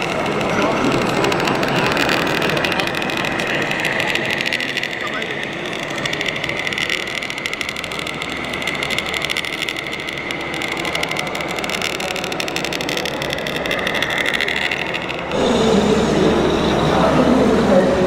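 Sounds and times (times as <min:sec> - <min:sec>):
model truck running with whine: 0:00.0 - 0:18.0.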